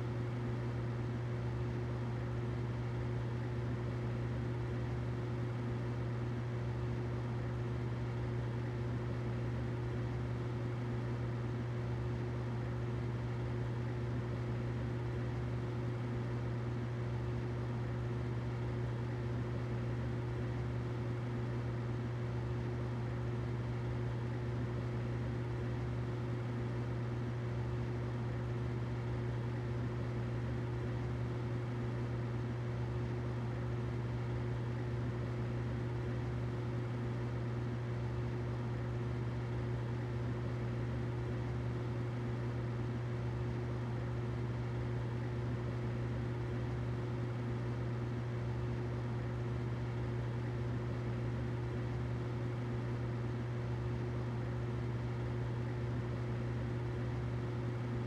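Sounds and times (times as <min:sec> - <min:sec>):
humidifier hiss: 0:00.0 - 0:58.0
humidifier hum: 0:00.0 - 0:58.0.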